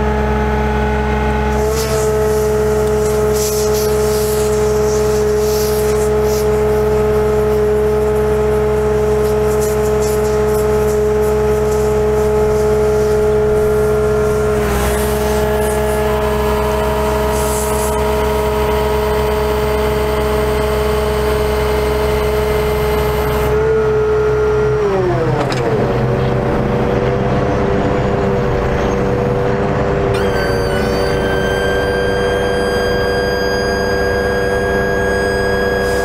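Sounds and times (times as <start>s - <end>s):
diesel engine running: 0.0s - 36.0s
hydraulics whining: 0.0s - 36.0s.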